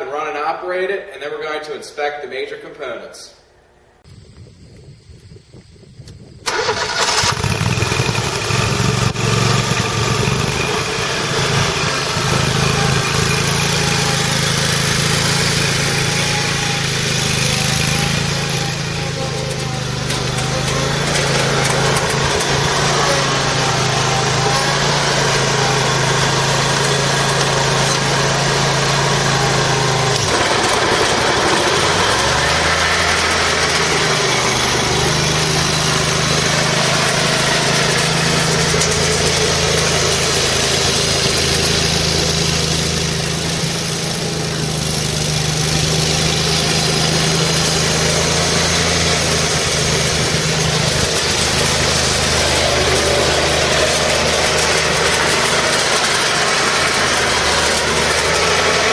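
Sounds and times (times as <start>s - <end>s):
mower engine running: 4.0s - 58.9s.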